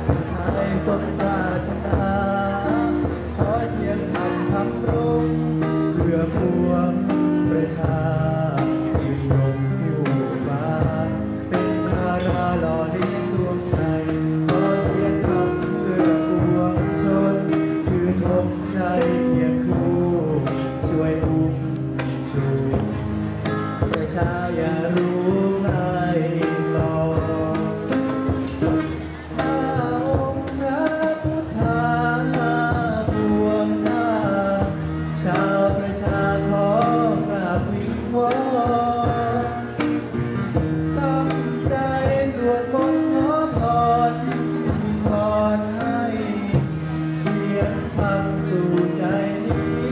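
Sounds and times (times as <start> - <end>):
cajon beat: 0.0 - 49.9
man singing into a microphone: 0.0 - 49.9
strummed acoustic guitar: 0.0 - 49.9.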